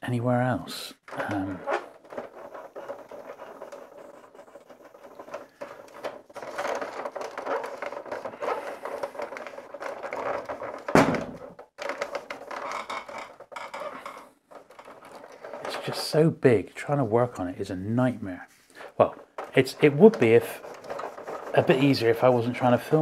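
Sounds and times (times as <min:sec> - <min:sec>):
cloth rubbing on plastic: 0:01.1 - 0:23.0.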